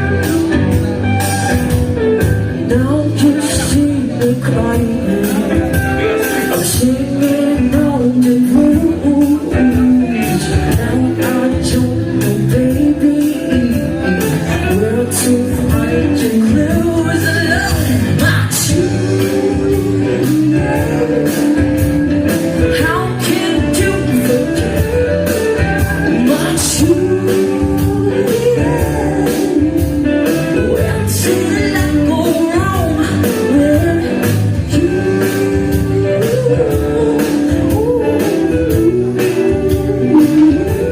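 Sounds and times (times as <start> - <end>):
person singing: 0.0 - 40.9
rock band playing: 0.0 - 40.9.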